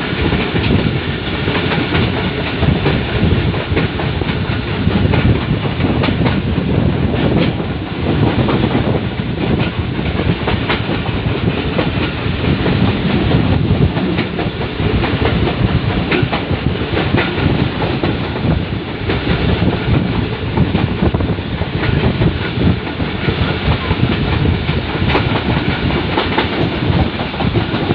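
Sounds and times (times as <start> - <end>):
train wheels rumbling on rails: 0.0 - 27.9
wheels clicking over rail joints: 0.0 - 27.9.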